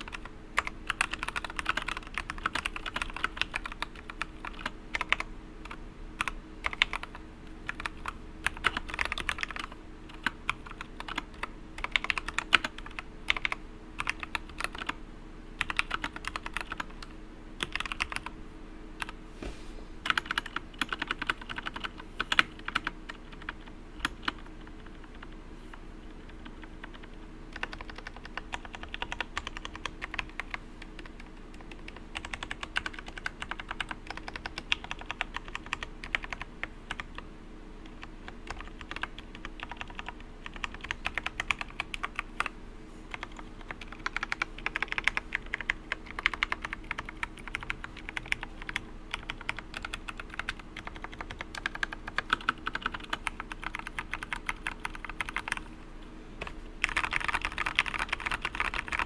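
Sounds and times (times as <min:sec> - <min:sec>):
mechanical keyboard typing: 0:00.0 - 0:15.0, 0:15.6 - 0:18.3, 0:20.0 - 0:25.4, 0:26.2 - 0:37.2, 0:37.8 - 0:42.5, 0:43.1 - 0:55.6, 0:56.8 - 0:59.0.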